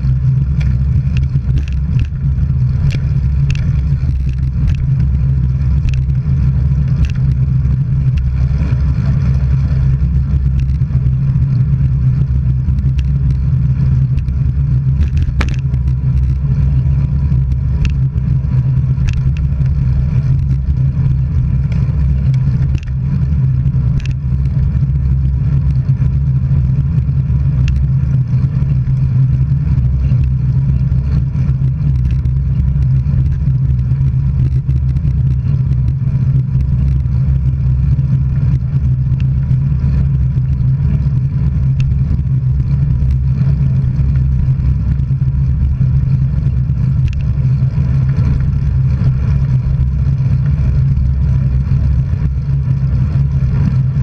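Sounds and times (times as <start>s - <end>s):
sharp bicycle clicks: 0.0s - 54.0s
wind and road rumble: 0.0s - 54.0s.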